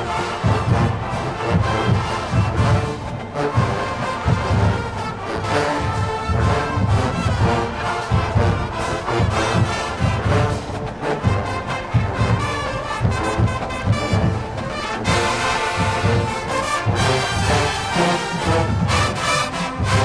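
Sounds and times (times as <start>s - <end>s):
brass section playing: 0.0s - 20.0s
steady drum beat: 0.0s - 20.0s.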